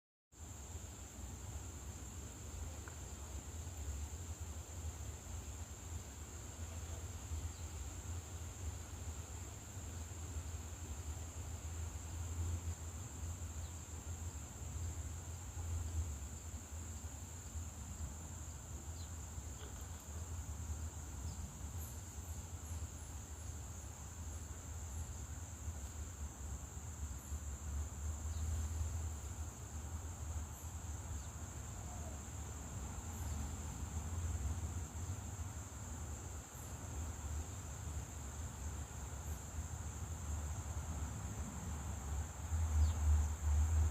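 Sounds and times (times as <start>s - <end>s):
insects trilling: 0.4s - 43.9s.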